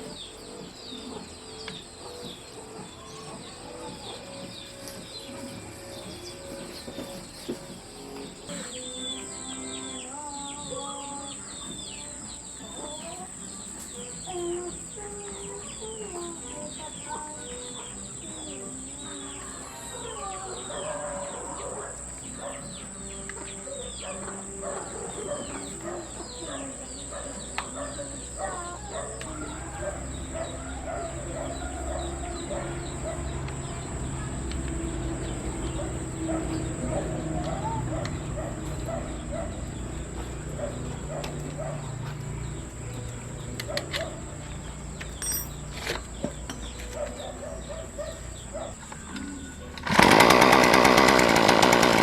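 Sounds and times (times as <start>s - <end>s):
chickens clucking: 0.0s - 45.0s
small birds chirping: 0.0s - 52.0s.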